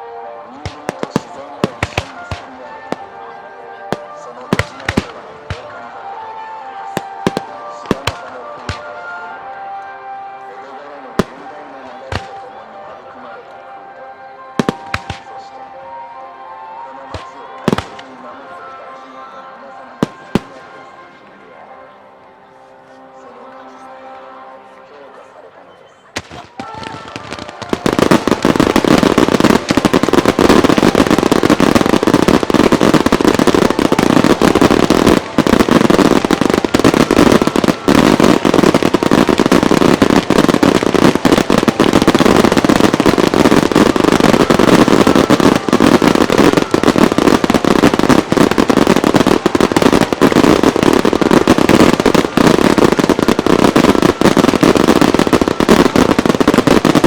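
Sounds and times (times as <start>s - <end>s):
fireworks bangs and crackling: 0.0s - 9.8s, 10.6s - 13.4s, 14.6s - 16.0s, 17.0s - 18.3s, 19.8s - 20.8s, 26.2s - 57.0s.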